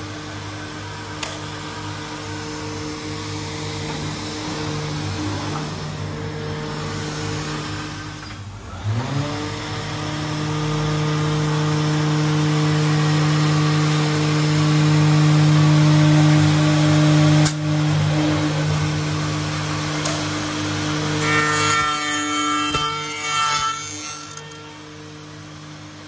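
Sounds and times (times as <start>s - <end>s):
machine motor spinning up and humming: 0.0s - 21.2s.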